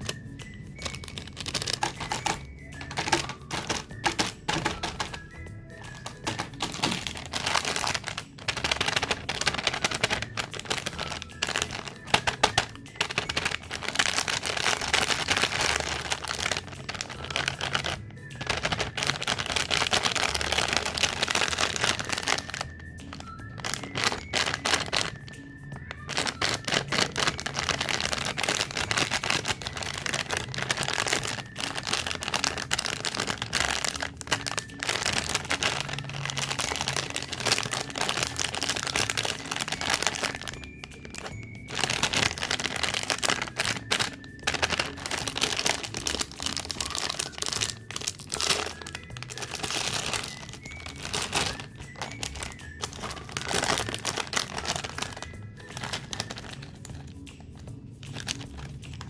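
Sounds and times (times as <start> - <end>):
packaging crinkling: 0.0 - 59.0.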